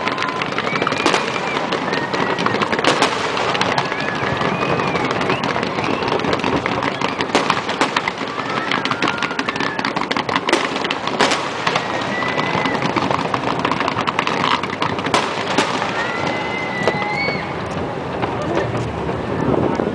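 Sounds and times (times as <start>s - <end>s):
firework shells bursting: 0.0s - 17.4s
fireworks crackling: 0.0s - 19.9s.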